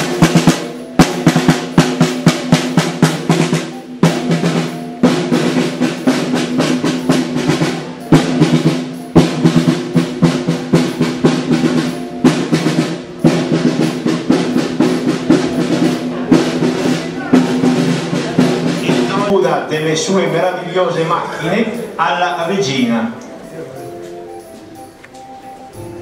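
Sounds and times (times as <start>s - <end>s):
snare drums playing rolls: 0.0s - 23.0s.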